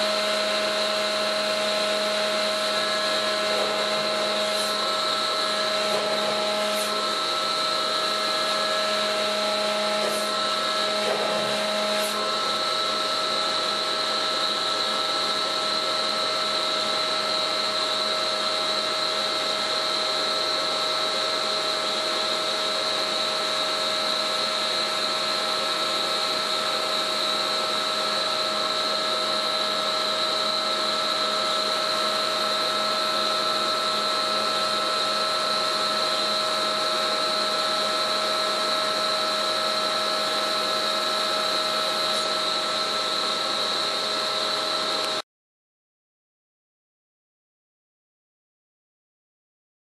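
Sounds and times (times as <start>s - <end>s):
hydraulic pump and winch whine: 0.0s - 45.2s.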